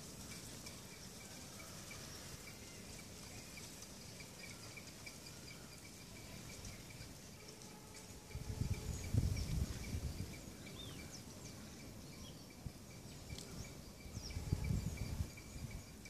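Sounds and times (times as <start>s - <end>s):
pulsing insect trill: 0.0s - 16.0s.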